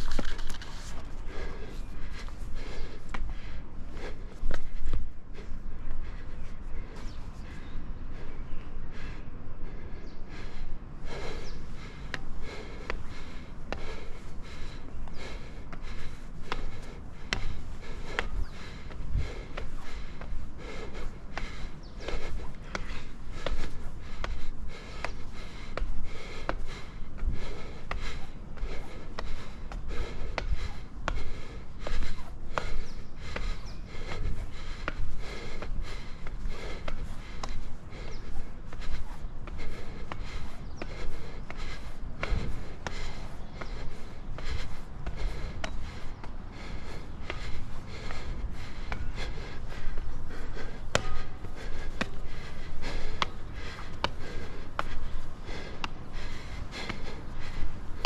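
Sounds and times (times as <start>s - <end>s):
person breathing: 0.0s - 58.0s.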